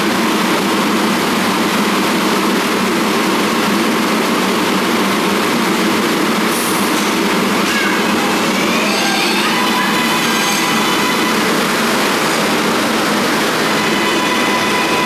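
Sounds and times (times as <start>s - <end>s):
subway train running noise: 0.0s - 15.0s.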